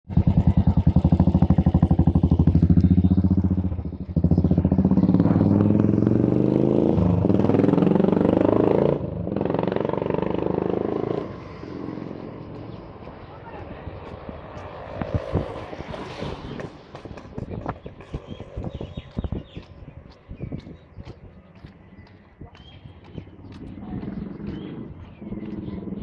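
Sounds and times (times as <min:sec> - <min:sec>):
motorcycle accelerating away: 0:00.1 - 0:18.8, 0:23.1 - 0:26.0.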